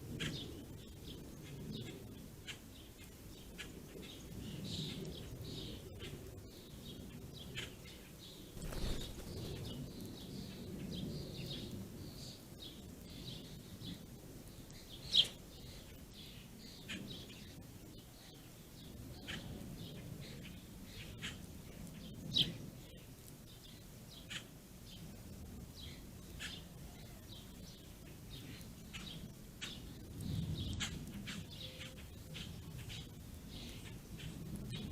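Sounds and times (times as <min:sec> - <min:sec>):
small songbirds chirping: 0:00.0 - 0:34.9.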